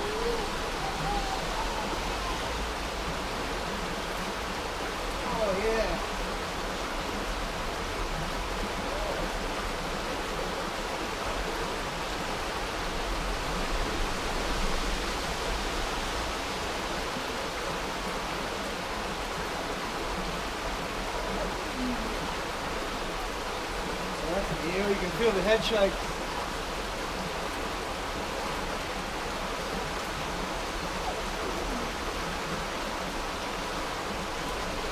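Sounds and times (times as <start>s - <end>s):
creek water rushing: 0.0s - 34.9s.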